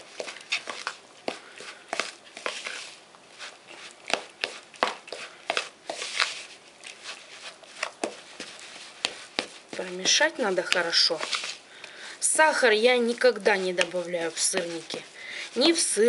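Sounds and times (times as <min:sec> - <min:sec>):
spoon scraping plastic bowl: 0:00.2 - 0:11.6, 0:13.1 - 0:16.0.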